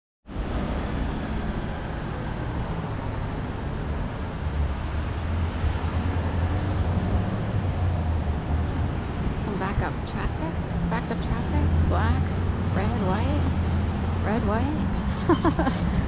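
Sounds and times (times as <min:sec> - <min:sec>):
city street traffic: 0:00.2 - 0:16.0.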